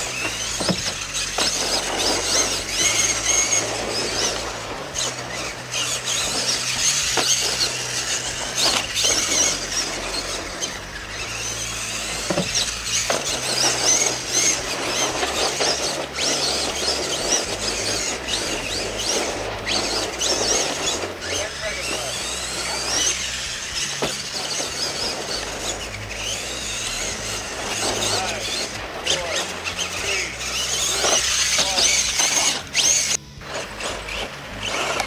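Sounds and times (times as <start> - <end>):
electric toy truck motor whining: 0.0 - 35.0.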